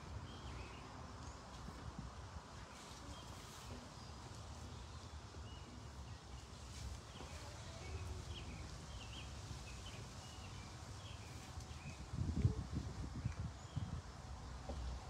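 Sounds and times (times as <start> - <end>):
small birds chirping: 2.6 - 15.0.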